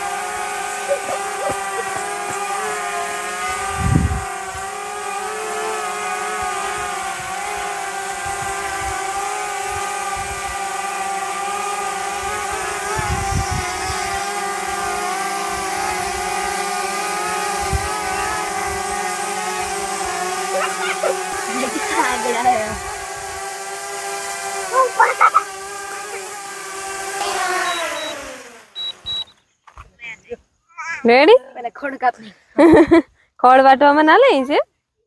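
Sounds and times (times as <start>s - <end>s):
drone propellers buzzing: 0.0s - 29.3s.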